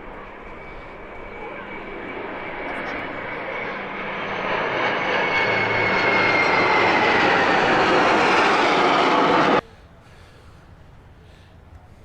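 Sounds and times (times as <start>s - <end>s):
aircraft flying low overhead: 0.0s - 10.0s.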